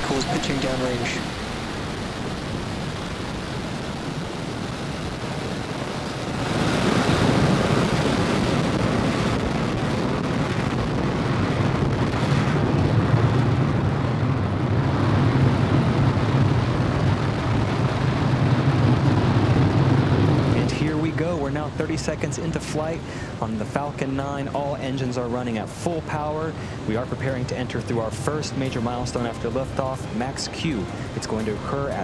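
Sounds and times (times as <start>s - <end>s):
rocket engines rumbling: 0.0s - 32.0s.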